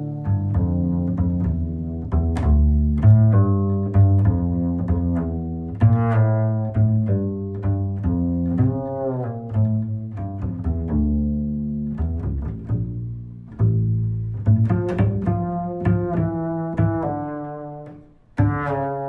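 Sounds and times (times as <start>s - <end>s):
instrumental music with plucked strings: 0.0s - 19.0s.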